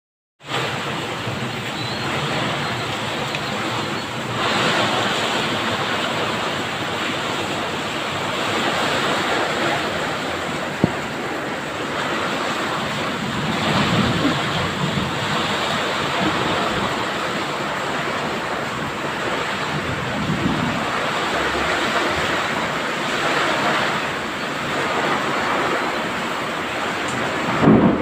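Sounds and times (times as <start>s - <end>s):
gusting wind: 0.4s - 28.0s
heavy rain pouring: 0.4s - 28.0s.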